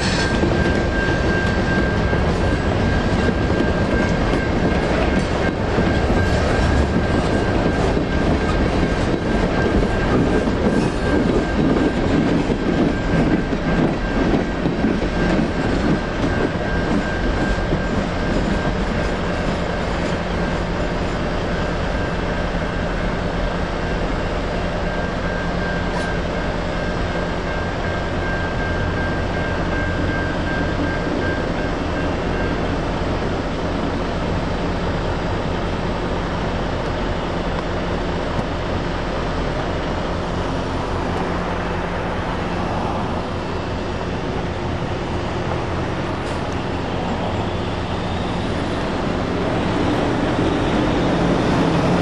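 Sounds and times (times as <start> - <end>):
freight train cars rumbling: 0.0 - 52.0
railroad crossing bells ringing: 0.0 - 52.0.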